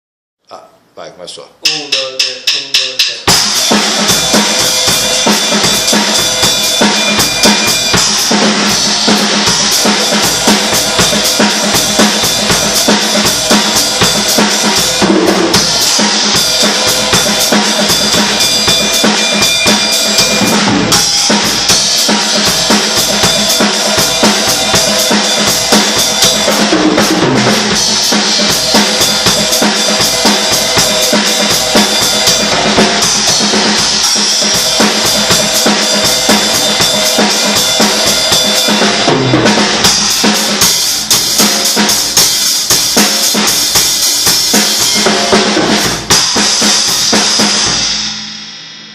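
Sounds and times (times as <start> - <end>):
drum kit playing a groove: 1.6 - 48.9.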